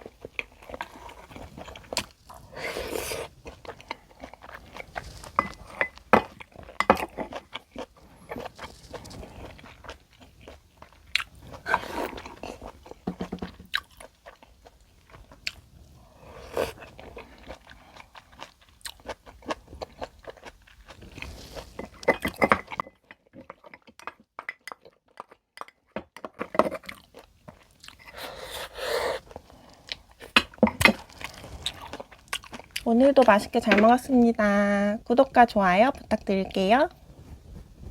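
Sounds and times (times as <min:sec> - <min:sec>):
crunchy chewing of food: 0:00.0 - 0:33.2.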